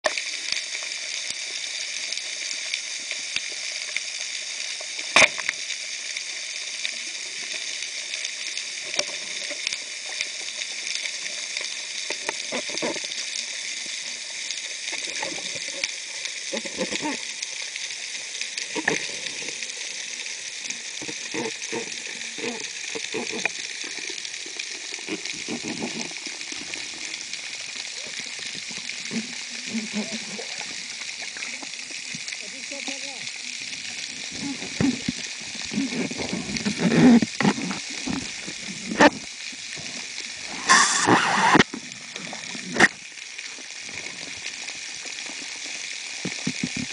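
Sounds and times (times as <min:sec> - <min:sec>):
underwater crackling hiss: 0:00.0 - 0:46.9.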